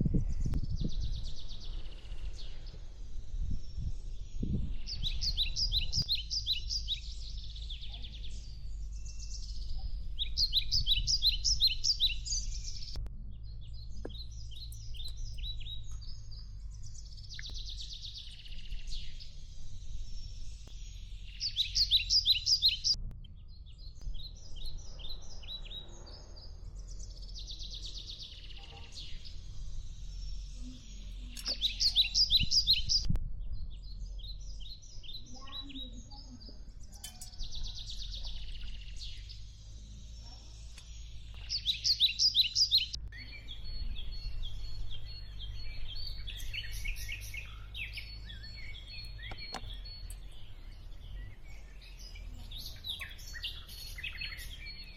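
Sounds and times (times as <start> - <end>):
songbirds chirping: 0.0 - 54.9
steady low rumble: 0.0 - 54.9.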